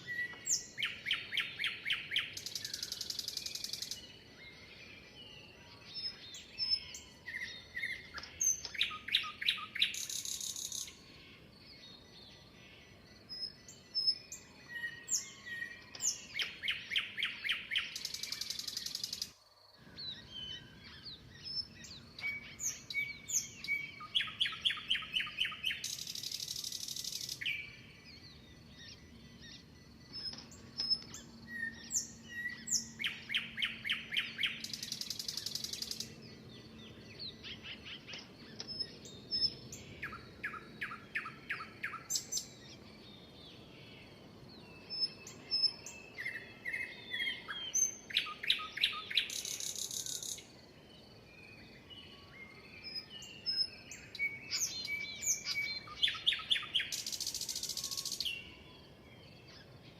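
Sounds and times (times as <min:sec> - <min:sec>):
songbird song with buzzing note: 0:00.0 - 0:59.9.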